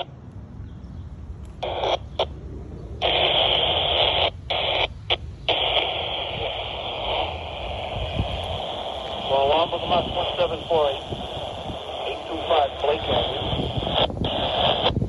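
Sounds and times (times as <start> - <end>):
radio static hiss: 1.5 - 15.0.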